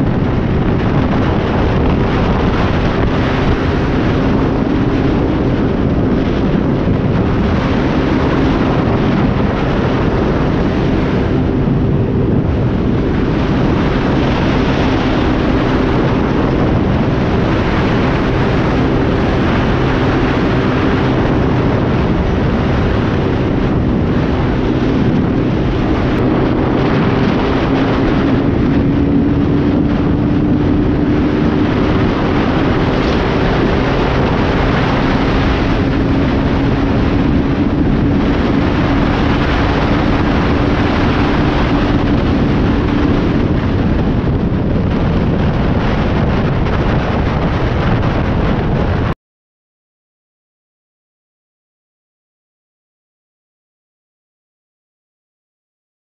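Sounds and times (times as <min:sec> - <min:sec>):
motorcycle engine running: 0:00.0 - 0:49.0
wind rush on microphone: 0:00.0 - 0:49.2.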